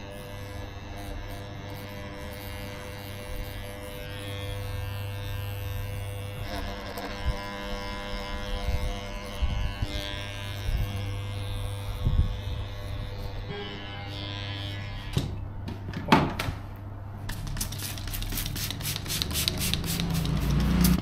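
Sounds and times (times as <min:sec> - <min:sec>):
electric cleansing brush buzzing: 0:00.0 - 0:15.4, 0:17.3 - 0:21.0.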